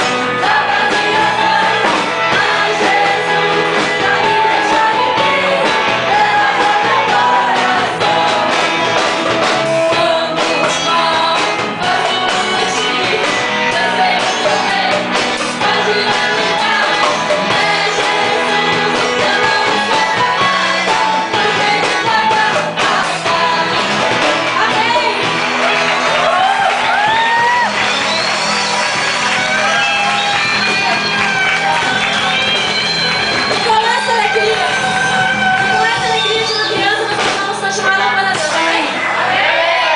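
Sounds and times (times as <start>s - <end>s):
voices singing: 0.0s - 26.3s, 27.8s - 39.9s
worship band playing rock music: 0.0s - 39.9s.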